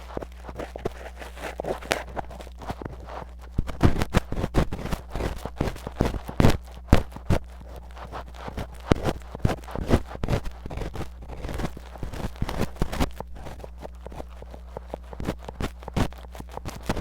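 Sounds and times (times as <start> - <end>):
low steady hum: 0.0 - 17.0
tweezers scratching a microphone: 0.0 - 17.0.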